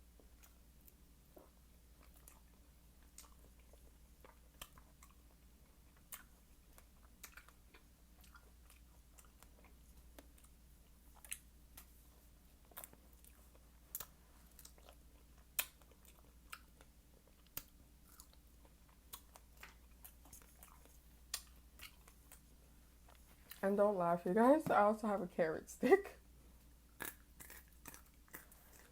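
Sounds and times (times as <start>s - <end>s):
chewing fruit: 0.0s - 23.6s, 26.9s - 28.9s.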